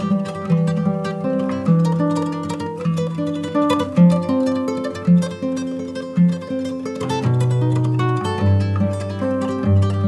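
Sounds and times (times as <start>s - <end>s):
plucked string instrumental music: 0.0s - 10.0s.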